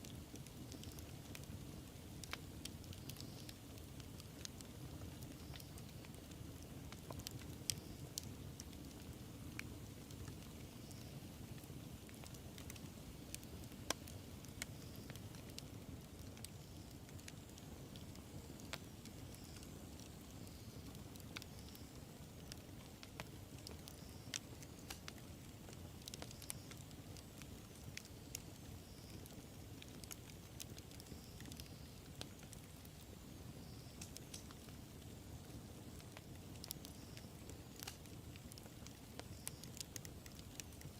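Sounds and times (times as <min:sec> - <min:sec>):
campfire flames rumbling: 0:00.0 - 0:40.9
fire crackling and popping: 0:00.0 - 0:40.9.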